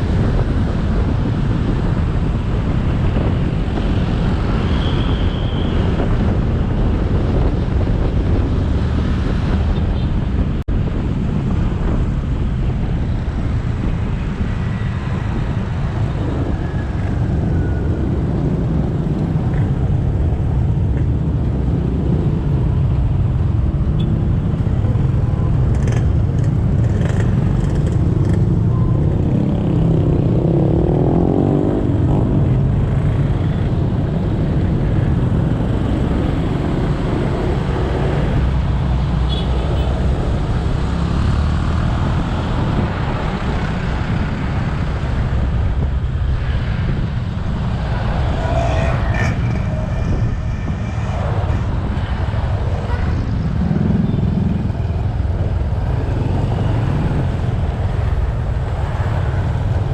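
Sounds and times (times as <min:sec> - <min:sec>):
road and traffic noise: 0:00.0 - 0:59.9
wind rumble on microphone: 0:00.0 - 0:59.9.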